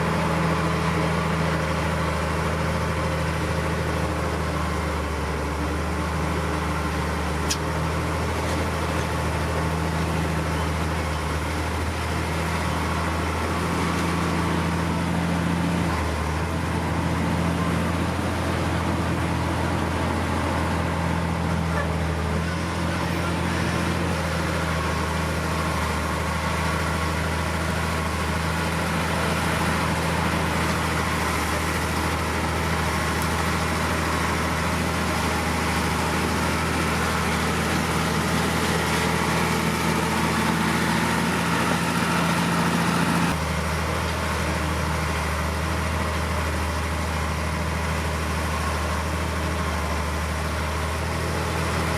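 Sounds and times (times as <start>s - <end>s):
heavy diesel engine droning: 0.0s - 51.9s.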